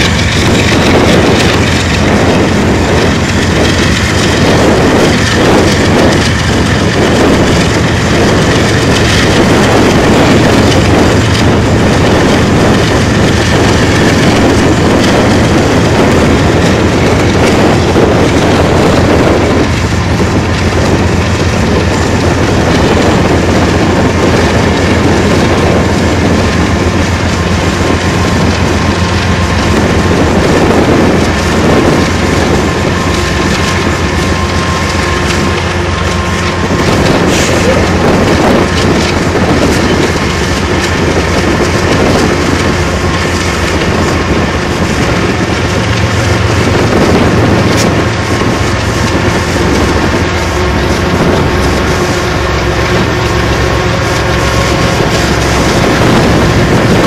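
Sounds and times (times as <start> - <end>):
locomotive engine drone: 0.0 - 57.0
train wheels rumbling on rails: 0.0 - 57.0.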